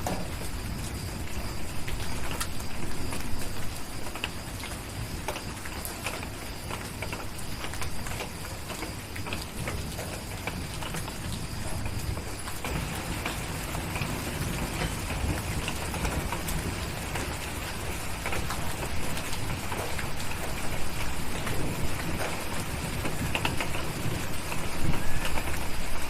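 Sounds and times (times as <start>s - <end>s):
sharp crackles and ticks: 0.0s - 26.0s
steady rain: 0.0s - 26.0s.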